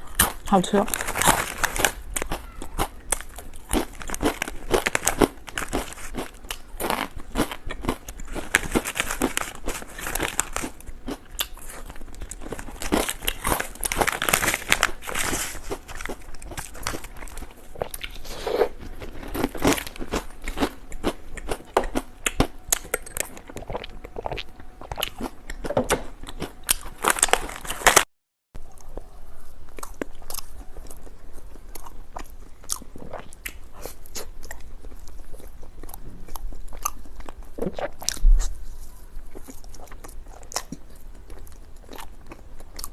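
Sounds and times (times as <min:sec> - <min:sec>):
crunching and chewing chips: 0:00.0 - 0:42.9.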